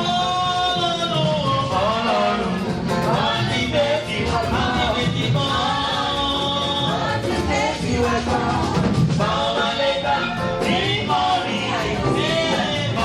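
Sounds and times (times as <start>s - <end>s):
instrumental accompaniment: 0.0s - 13.0s
voices singing: 1.7s - 13.0s.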